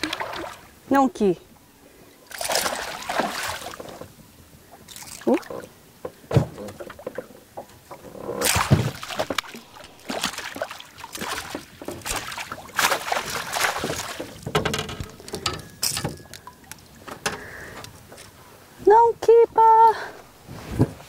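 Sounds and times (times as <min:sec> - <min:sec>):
water splashing around boat: 0:00.0 - 0:01.1, 0:01.9 - 0:18.5.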